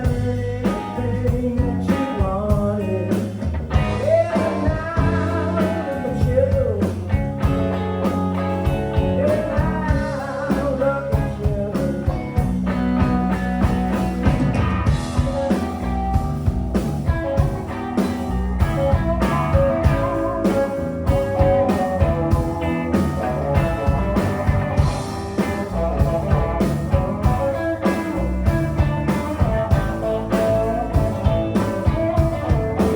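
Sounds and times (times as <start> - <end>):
drums steady beat: 0.0 - 32.9
electric guitar lines bending: 3.2 - 32.9.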